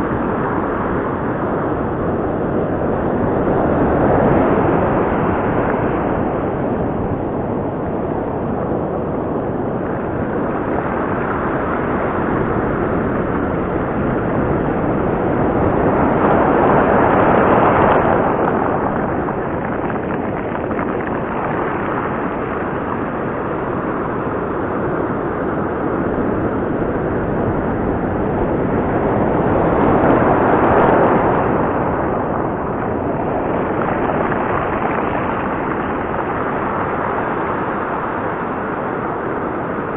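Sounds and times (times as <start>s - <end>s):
surf breaking on rocky shore: 0.0s - 39.9s.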